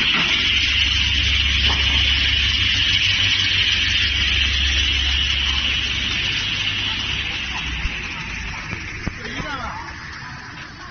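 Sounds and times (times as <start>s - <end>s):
low motor hum: 0.0s - 10.9s.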